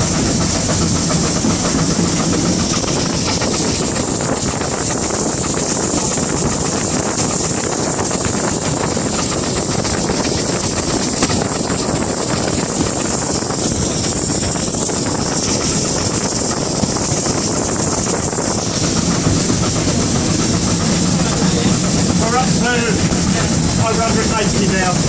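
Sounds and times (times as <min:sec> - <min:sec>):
steam locomotive running noise: 0:00.0 - 0:25.0
wind buffeting the microphone: 0:00.0 - 0:25.0.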